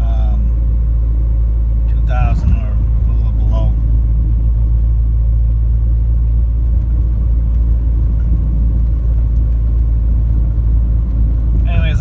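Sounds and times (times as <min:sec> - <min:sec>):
car engine rumble while driving: 0:00.0 - 0:12.0.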